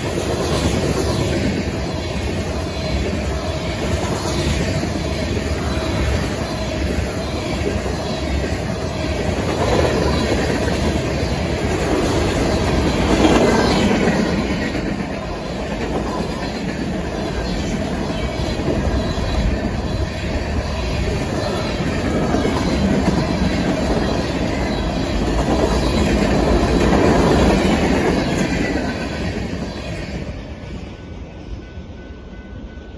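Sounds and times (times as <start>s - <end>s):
freight train wheels clacking on rails: 0.0s - 32.9s.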